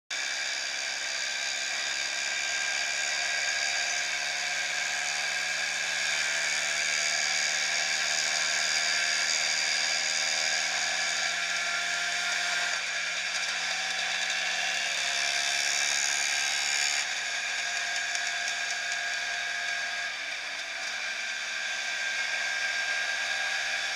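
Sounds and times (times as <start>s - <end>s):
motor scooter engine whining: 0.2s - 23.9s.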